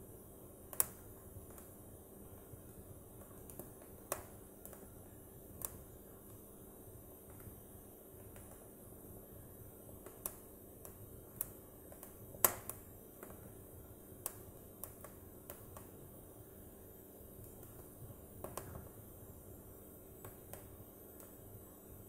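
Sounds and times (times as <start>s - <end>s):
faint background hiss: 0.0s - 22.0s
logs crackling in a fireplace: 0.0s - 22.0s
fire popping: 0.7s - 9.1s, 10.0s - 15.9s, 17.4s - 21.6s.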